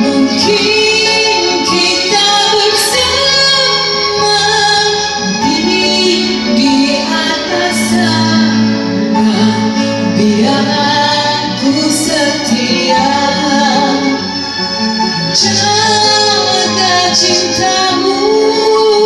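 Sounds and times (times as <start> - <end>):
woman singing with instruments: 0.0 - 14.2, 15.3 - 19.0.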